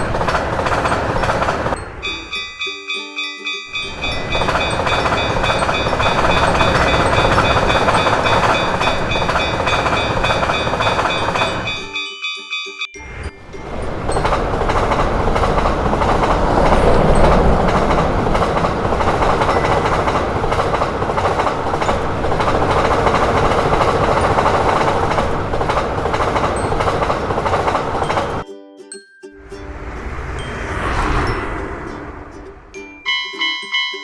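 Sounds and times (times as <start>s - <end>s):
train wheels rumbling on rails: 0.0s - 12.1s, 13.0s - 28.4s, 29.5s - 33.5s
rhythmic rail clacking: 0.0s - 28.5s, 29.4s - 34.0s.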